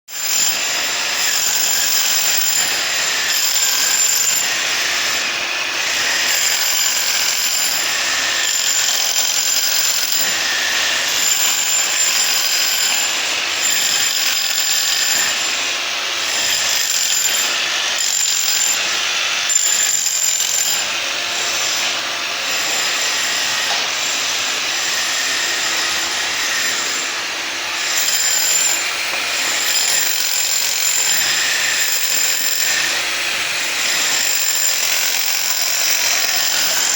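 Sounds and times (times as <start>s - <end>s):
demolition hammer rattling on concrete: 0.2s - 36.9s.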